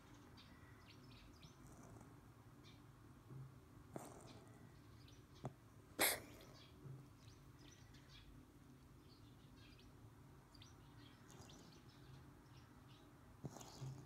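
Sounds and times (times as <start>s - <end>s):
faint bird chirps: 0.0s - 2.9s, 4.0s - 14.0s
low steady background hum: 0.0s - 14.0s.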